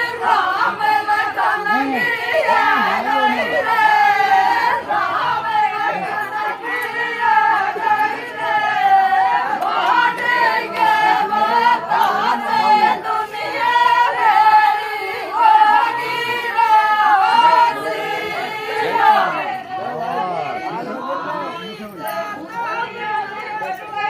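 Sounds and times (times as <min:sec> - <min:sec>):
faint crowd murmur: 0:00.0 - 0:24.0
people singing folk song: 0:00.0 - 0:24.0.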